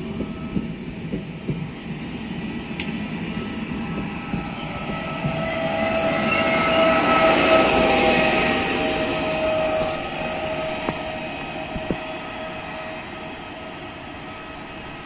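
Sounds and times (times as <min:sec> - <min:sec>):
locomotive whine: 0:00.0 - 0:15.0
train wheels rumbling and knocking: 0:00.0 - 0:15.0.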